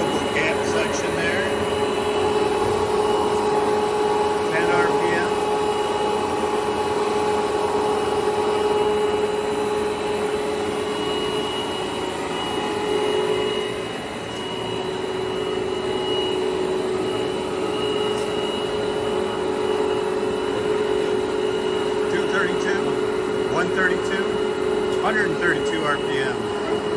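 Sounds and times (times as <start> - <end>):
lathe drive whine: 0.0 - 26.9
lathe machine hum: 0.0 - 26.9.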